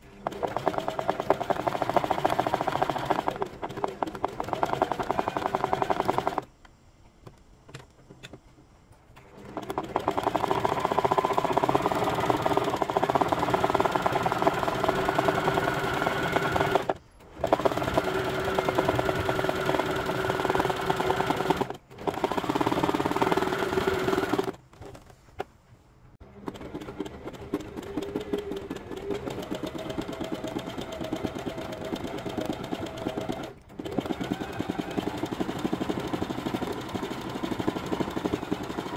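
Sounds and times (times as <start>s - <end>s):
sewing machine running: 0.0s - 6.5s, 9.2s - 24.6s, 26.2s - 38.9s.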